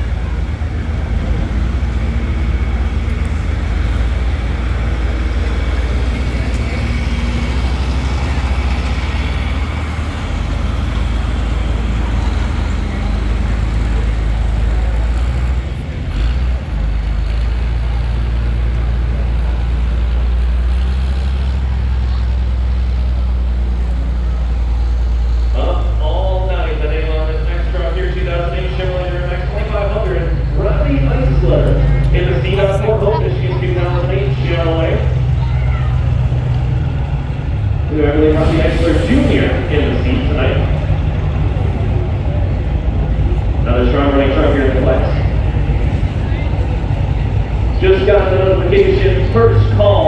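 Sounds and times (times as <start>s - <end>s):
truck engine running hard: 0.0s - 50.0s.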